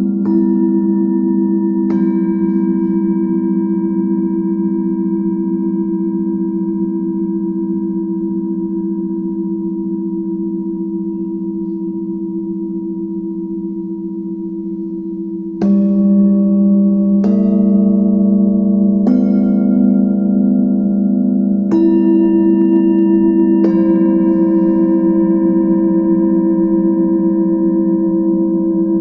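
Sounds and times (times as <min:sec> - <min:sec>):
singing bowls ringing: 0:00.0 - 0:29.0.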